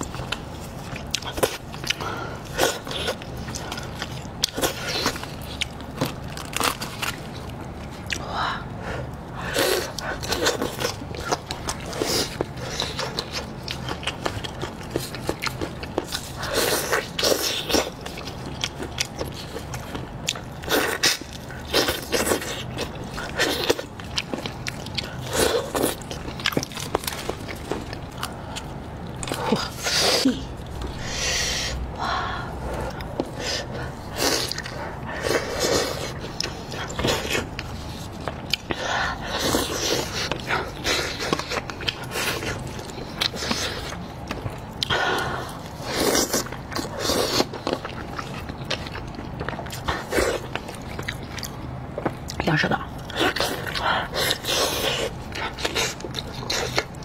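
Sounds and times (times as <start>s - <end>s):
chewing and sucking meat: 0.0s - 57.0s.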